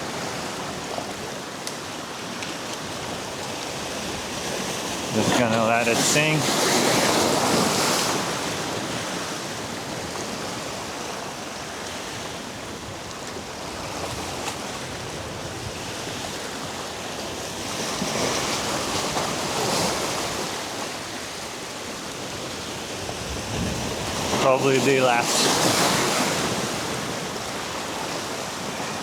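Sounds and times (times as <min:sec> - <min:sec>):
ocean surf washing against rocks: 0:00.0 - 0:29.0.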